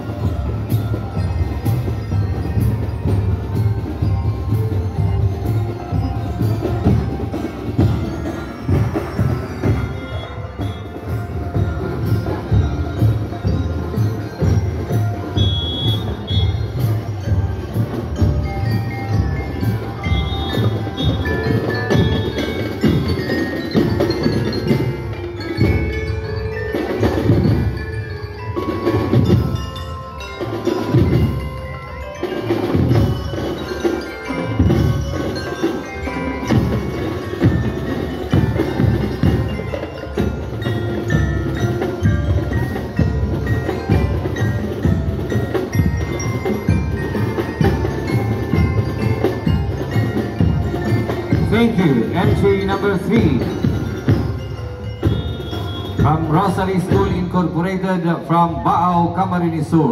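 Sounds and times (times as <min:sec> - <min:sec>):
bell lyres ringing: 0:00.0 - 0:59.9
steady drum beats: 0:00.0 - 0:59.9.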